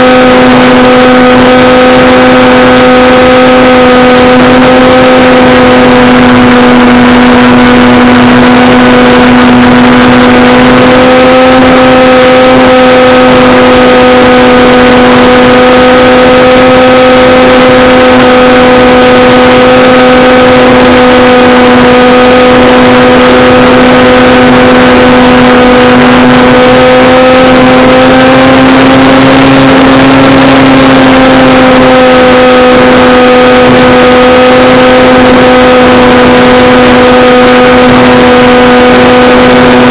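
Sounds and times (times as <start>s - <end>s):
propeller buzzing drone: 0.0s - 39.9s
rush of wind: 0.0s - 39.9s.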